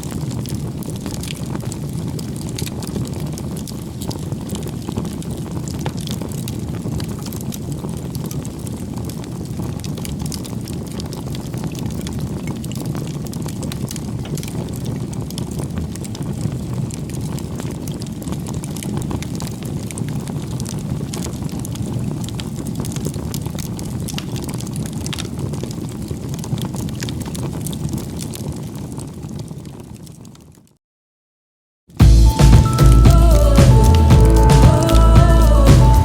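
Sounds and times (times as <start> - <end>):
small clicks and crackles: 0.0 - 30.7.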